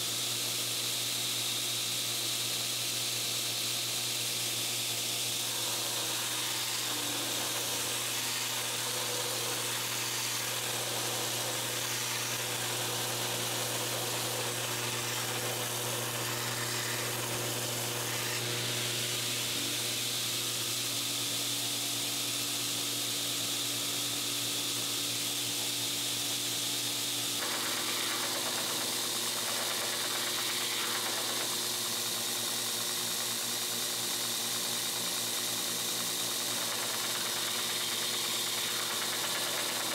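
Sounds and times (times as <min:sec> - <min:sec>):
belt grinder running: 0:03.9 - 0:39.9.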